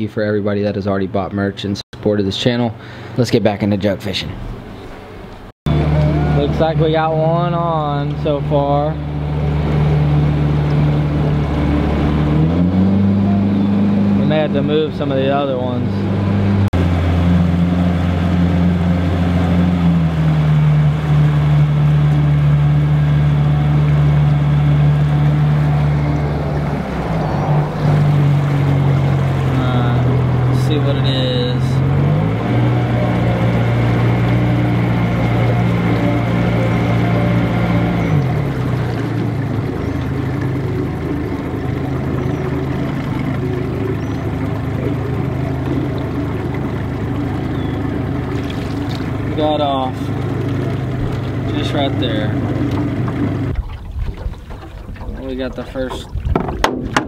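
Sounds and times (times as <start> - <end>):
outboard motor running: 5.6 - 57.0.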